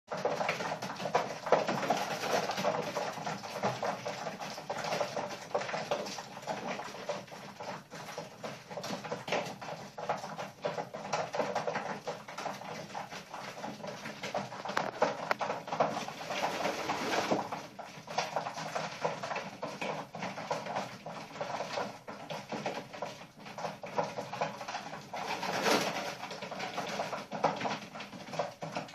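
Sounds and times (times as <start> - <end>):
pigeons shuffling: 0.1 - 28.9.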